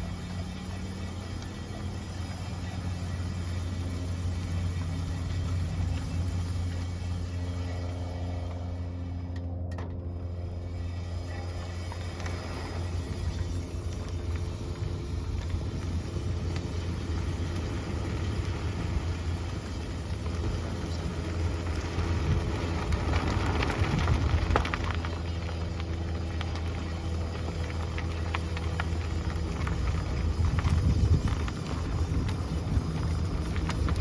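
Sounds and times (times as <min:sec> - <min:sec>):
car road rumble: 0:00.0 - 0:34.0.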